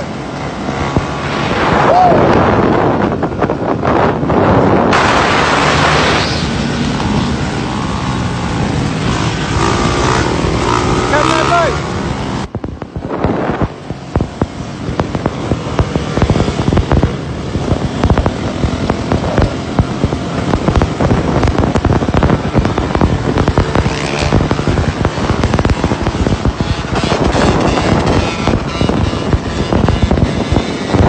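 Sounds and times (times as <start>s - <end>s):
dirt bike engines popping: 0.0s - 31.0s.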